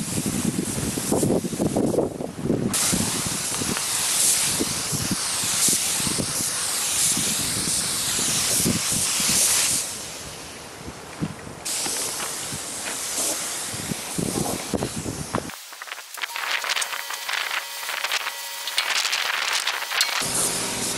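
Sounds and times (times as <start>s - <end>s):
spray gun hissing: 0.0s - 2.1s, 2.7s - 10.6s, 11.6s - 20.9s
wind rumbling on microphone: 0.0s - 20.3s.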